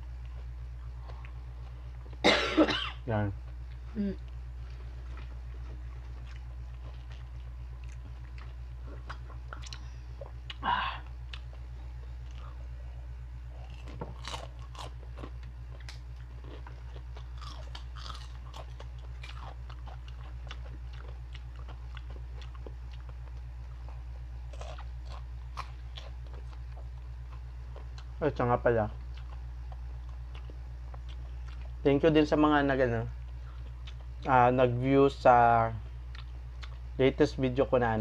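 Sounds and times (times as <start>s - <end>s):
crunching and chewing: 0.0s - 2.2s, 3.4s - 32.0s, 33.0s - 34.4s, 35.8s - 37.0s
steady low hum: 0.0s - 38.0s.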